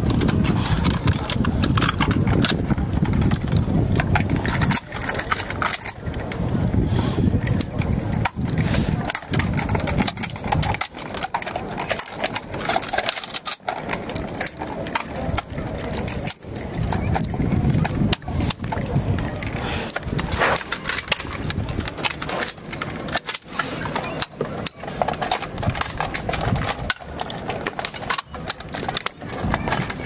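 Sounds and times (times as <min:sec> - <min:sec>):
murmur of voices: 0:00.0 - 0:30.0.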